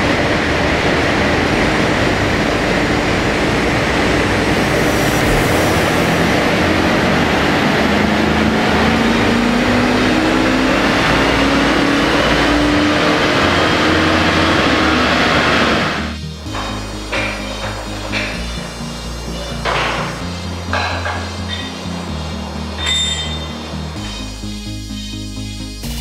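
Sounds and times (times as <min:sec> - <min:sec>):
diesel engine revving under load: 0:00.0 - 0:26.0
tyres on dyno rollers: 0:00.0 - 0:26.0.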